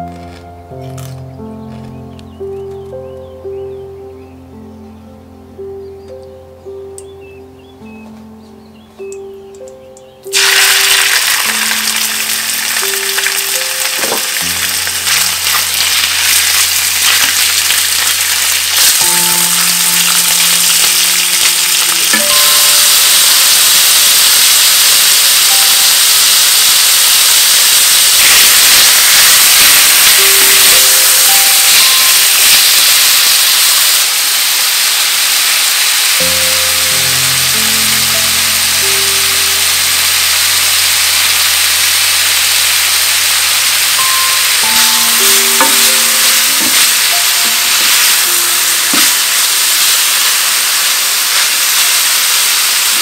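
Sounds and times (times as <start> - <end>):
meat sizzling in hot oil: 10.3 - 53.0.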